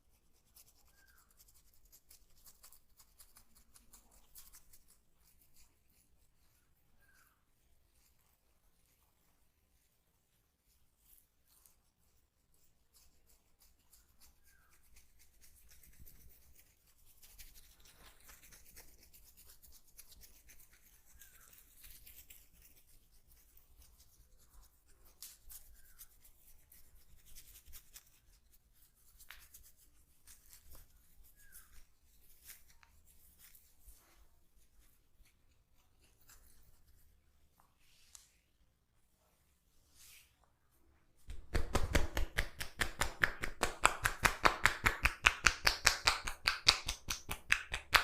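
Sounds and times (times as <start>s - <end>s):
hands rubbing hair and skin: 0.0s - 48.0s.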